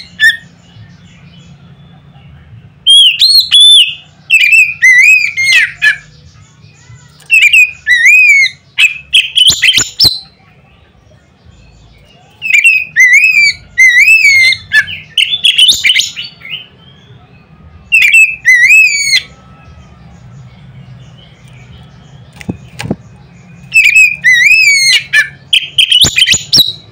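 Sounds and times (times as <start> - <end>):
songbird whistling song: 0.0 - 26.9.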